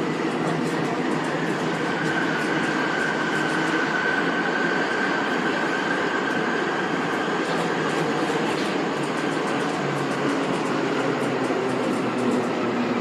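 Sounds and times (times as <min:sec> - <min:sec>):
train rumbling through tunnel: 0:00.0 - 0:13.0.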